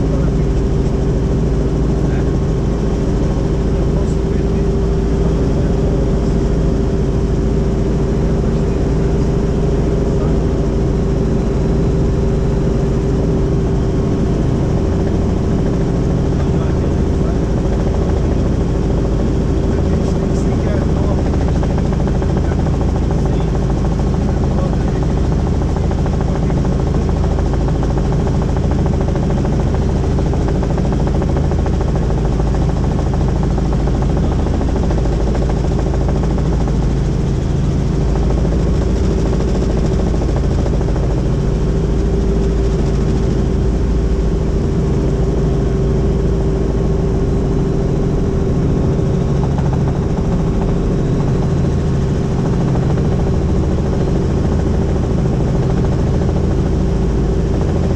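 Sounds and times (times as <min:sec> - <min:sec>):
helicopter rotor and turbine: 0:00.0 - 0:57.9.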